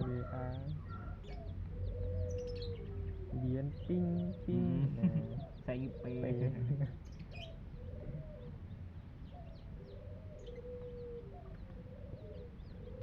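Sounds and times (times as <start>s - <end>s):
chickens calling and clucking: 0.0s - 8.7s, 9.3s - 13.0s.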